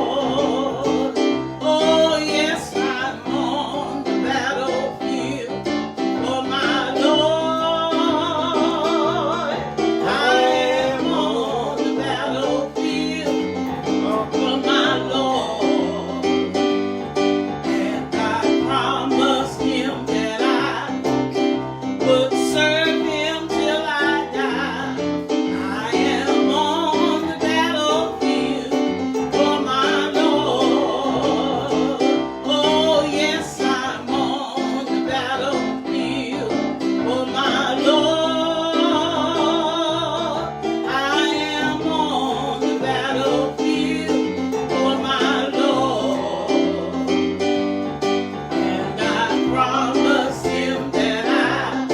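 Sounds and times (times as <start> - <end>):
gospel singing with vibrato: 0.0 - 51.9
instrumental accompaniment: 0.0 - 51.9.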